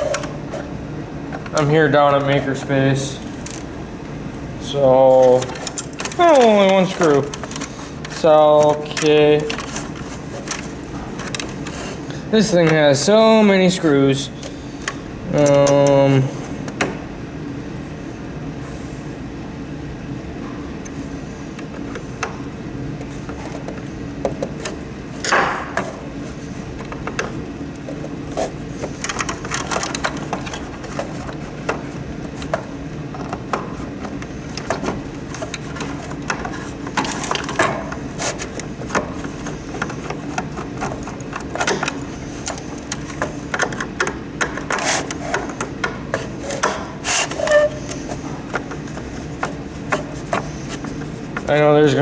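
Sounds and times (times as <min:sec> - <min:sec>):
plastic parts clicking and rattling: 0:00.0 - 0:00.7, 0:01.3 - 0:03.8, 0:04.6 - 0:16.1, 0:20.8 - 0:51.6
steady low hum: 0:00.0 - 0:52.0.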